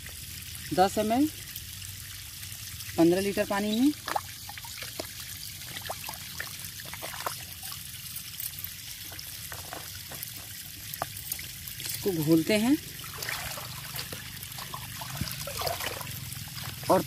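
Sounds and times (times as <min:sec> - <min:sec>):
water splashing in a bucket: 0:00.0 - 0:17.0.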